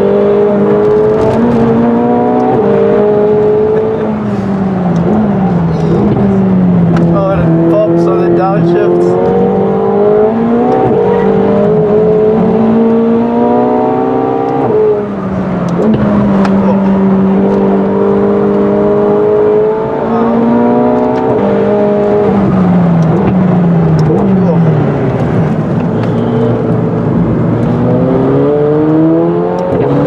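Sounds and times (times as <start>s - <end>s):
sports car engine accelerating: 0.0s - 30.0s.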